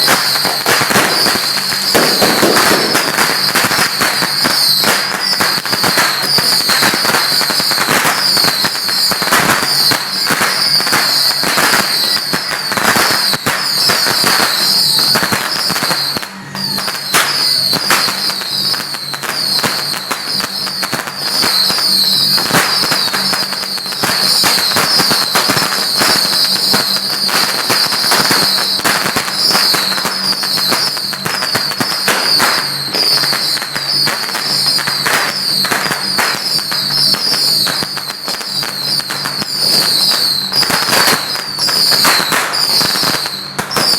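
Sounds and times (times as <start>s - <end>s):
firecrackers crackling: 0.0s - 43.9s.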